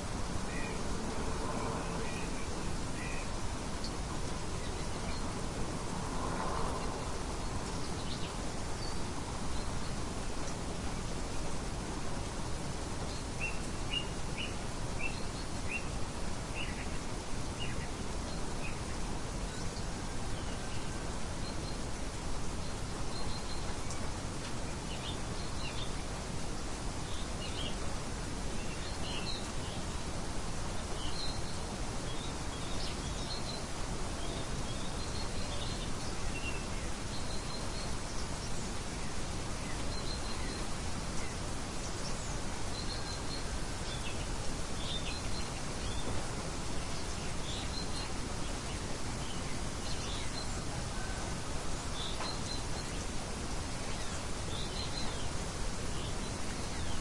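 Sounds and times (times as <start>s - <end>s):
rain hiss: 0.0s - 57.0s
songbirds chirping: 0.0s - 57.0s.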